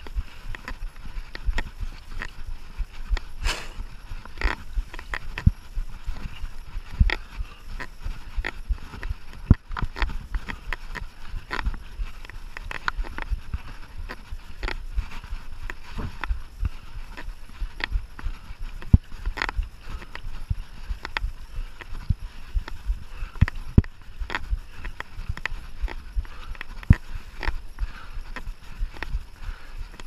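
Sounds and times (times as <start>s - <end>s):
mountain bike rumbling on rough trail: 0.0s - 30.0s.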